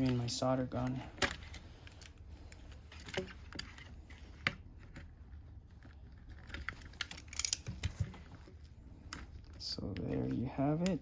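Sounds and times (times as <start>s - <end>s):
small parts clicking and rattling: 0.0s - 11.0s.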